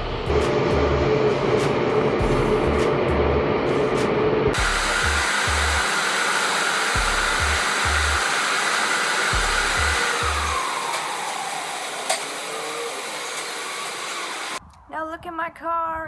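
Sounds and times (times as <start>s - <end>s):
air-dryer blowers rushing: 0.0s - 14.6s.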